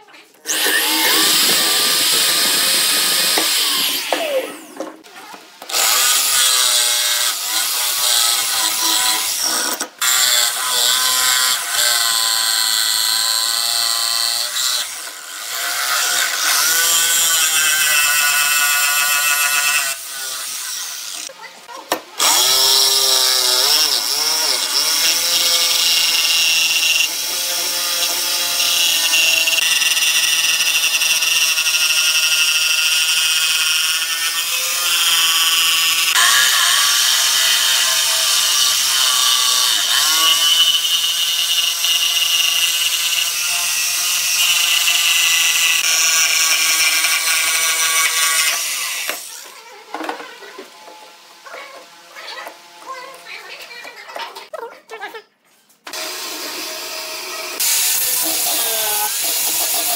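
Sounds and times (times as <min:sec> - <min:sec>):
electric jigsaw cutting wood: 0:00.4 - 0:05.0, 0:05.6 - 0:21.3, 0:22.2 - 0:49.4, 0:55.9 - 0:59.9.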